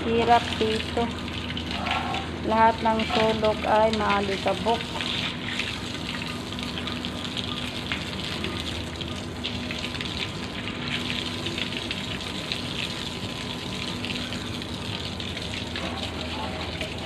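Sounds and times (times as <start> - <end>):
faint steady hum: 0.0 - 17.0
running water splashing: 0.0 - 17.0.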